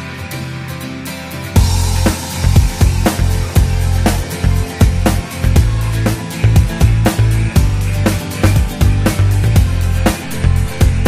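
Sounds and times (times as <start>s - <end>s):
background music: 0.0s - 11.0s
drum beat with heavy bass: 1.6s - 11.0s.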